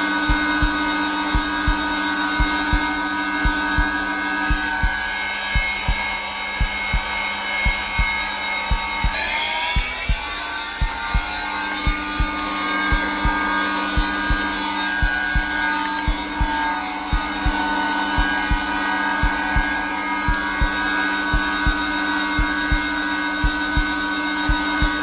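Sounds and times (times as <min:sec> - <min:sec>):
heartbeat thumps: 0:00.0 - 0:25.0
vacuum cleaner motor whine: 0:00.0 - 0:25.0.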